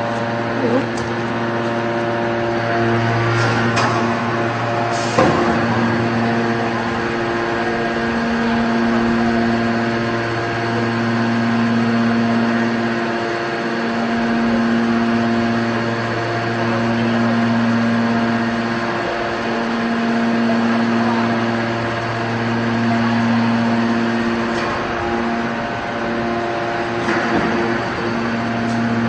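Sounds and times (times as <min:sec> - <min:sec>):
hydraulic power unit humming: 0:00.0 - 0:29.0.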